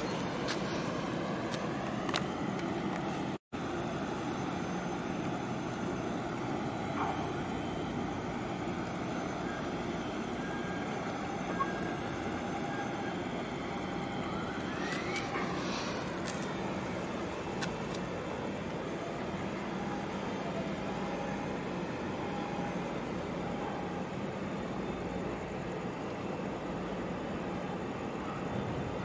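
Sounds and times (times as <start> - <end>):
ship diesel engines droning: 0.0 - 29.0.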